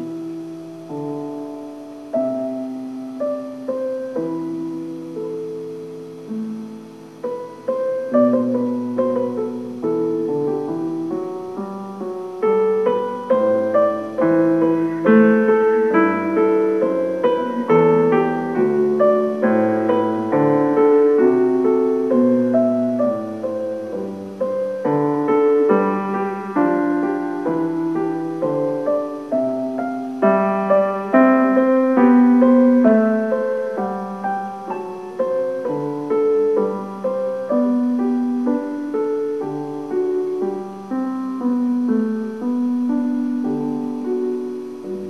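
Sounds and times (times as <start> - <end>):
piano music: 0.0 - 45.0.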